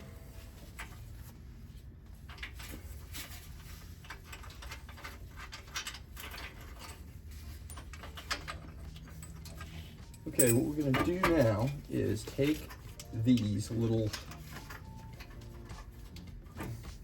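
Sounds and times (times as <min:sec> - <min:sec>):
low steady hum: 0:00.0 - 0:17.0
small parts and tools clicking: 0:02.3 - 0:17.0.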